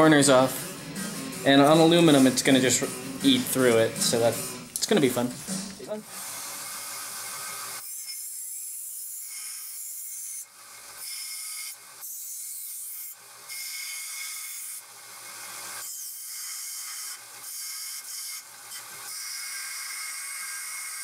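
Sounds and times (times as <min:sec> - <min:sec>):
belt sander grinding metal: 0:00.0 - 0:21.0.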